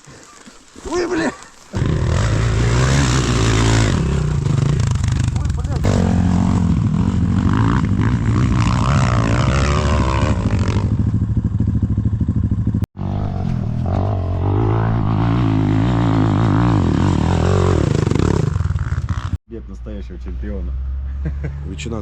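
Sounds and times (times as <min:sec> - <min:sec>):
dirt bike engine revving: 0:01.7 - 0:19.4.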